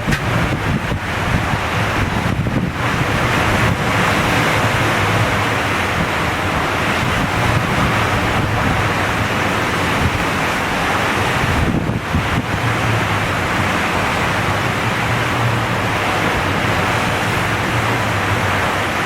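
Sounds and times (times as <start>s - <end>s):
strong wind hitting microphone: 0.0s - 19.0s.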